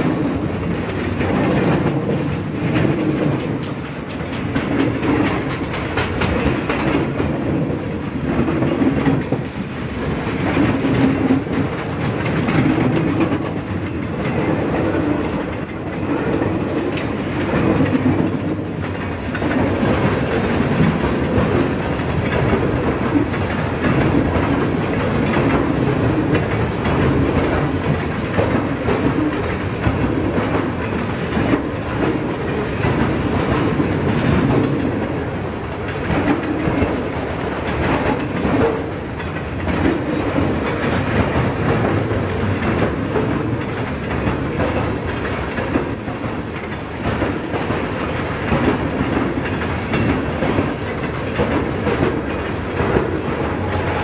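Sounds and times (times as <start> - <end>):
freight train rolling by: 0.0 - 54.0
wheels clicking over rails: 0.0 - 54.0.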